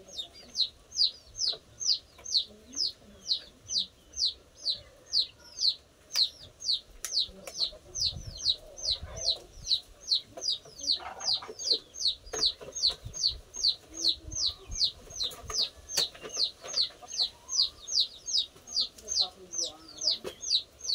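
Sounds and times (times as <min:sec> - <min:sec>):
chick peeping: 0:00.0 - 0:20.9.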